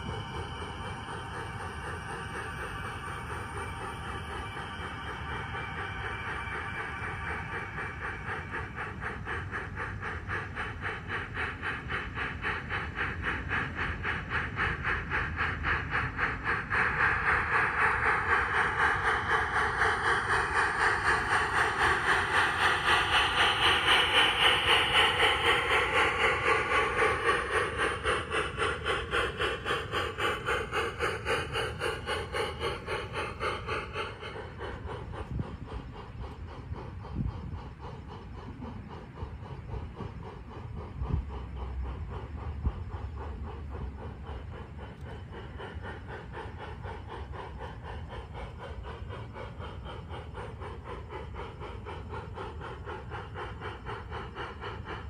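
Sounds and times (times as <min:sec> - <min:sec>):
model steam locomotive chuffing: 0:00.0 - 0:55.0
steam hiss: 0:00.0 - 0:55.0.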